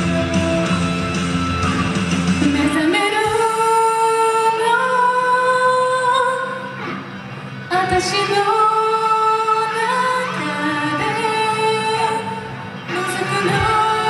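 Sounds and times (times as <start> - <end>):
karaoke backing track: 0.0 - 14.0
woman singing into a microphone: 2.4 - 14.0.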